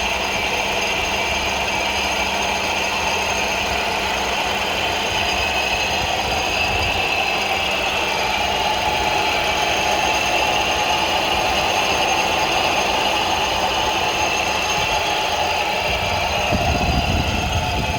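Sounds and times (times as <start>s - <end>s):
car engine running: 0.0s - 17.9s
compressor clutch rattling: 0.1s - 17.9s.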